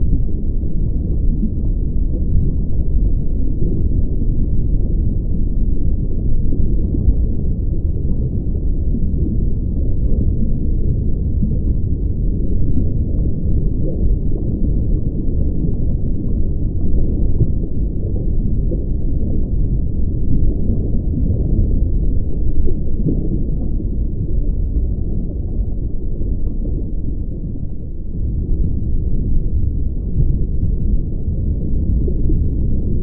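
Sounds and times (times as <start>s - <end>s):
underwater water rumble: 0.0s - 33.0s.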